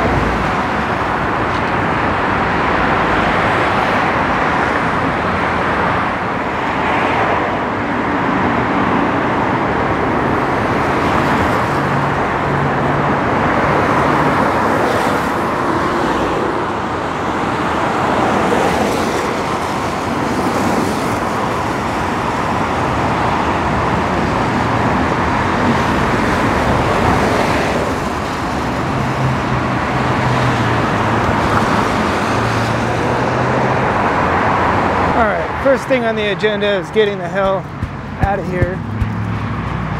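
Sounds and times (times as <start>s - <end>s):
freeway traffic on wet pavement: 0.0s - 39.9s
low engine hum of passing vehicles: 0.0s - 39.9s.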